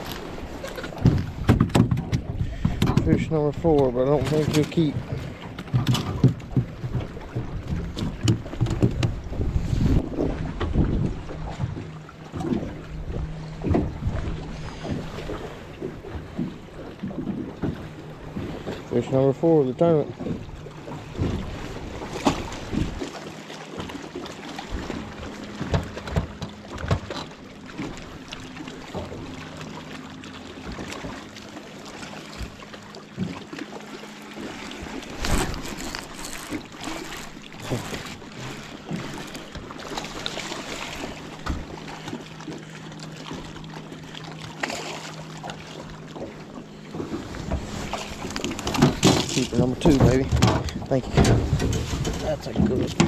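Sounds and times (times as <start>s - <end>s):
water noise: 0.0s - 53.0s
electric trolling motor humming: 6.3s - 49.9s.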